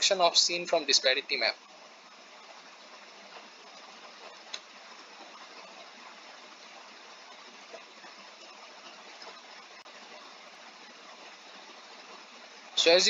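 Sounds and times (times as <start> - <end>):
recording background hiss: 0.0 - 13.0.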